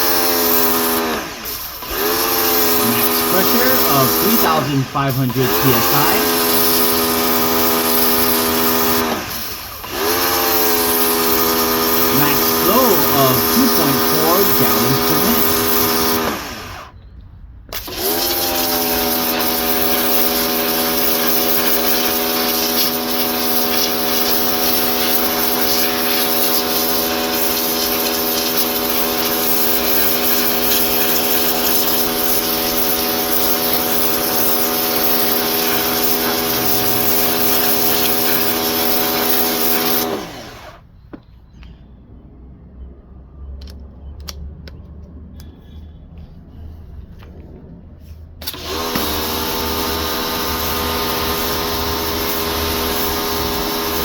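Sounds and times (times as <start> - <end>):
water spray hissing: 0.0 - 16.7, 17.8 - 40.6, 48.4 - 54.0
pressure washer motor and pump: 0.0 - 17.1, 17.7 - 41.3, 48.4 - 54.0.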